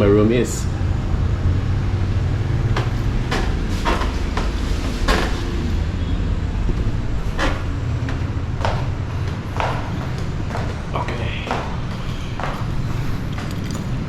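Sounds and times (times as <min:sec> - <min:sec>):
steady low hum: 0:00.0 - 0:14.0
footsteps going down stairs: 0:02.4 - 0:14.0.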